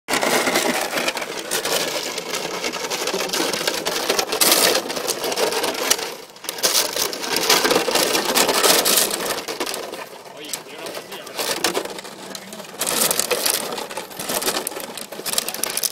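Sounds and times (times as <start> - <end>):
plastic bottles crinkling and clattering: 0.1 - 15.9.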